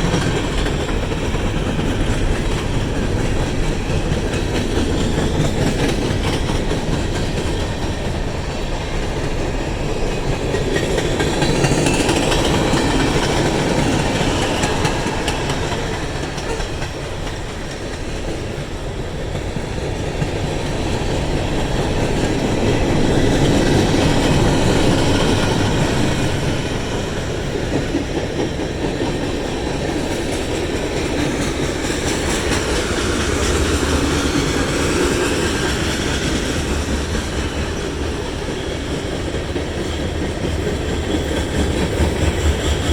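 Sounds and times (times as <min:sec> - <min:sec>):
train wheels on track: 0:00.0 - 0:42.9.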